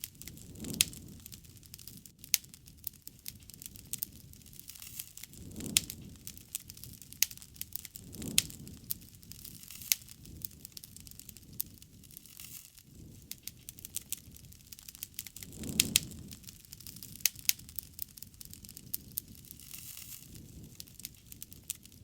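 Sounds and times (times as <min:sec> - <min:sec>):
bonfire crackling and snapping: 0:00.0 - 0:22.0
low rush of flame: 0:00.0 - 0:22.0.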